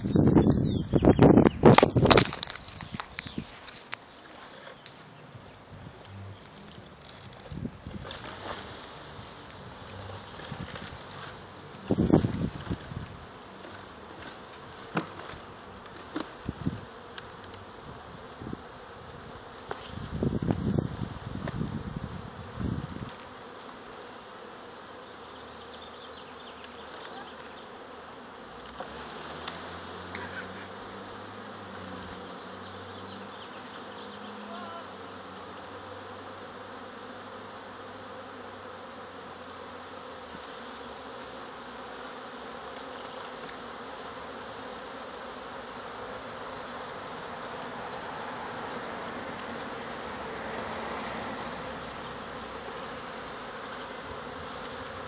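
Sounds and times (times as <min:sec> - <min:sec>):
bee swarm buzzing: 0:00.0 - 0:55.0.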